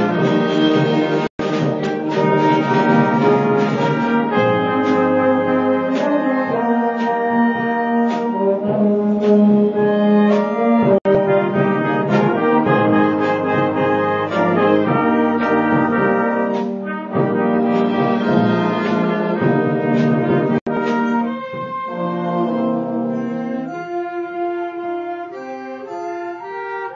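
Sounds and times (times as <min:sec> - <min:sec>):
school band brass chords: 0:00.0 - 0:26.9.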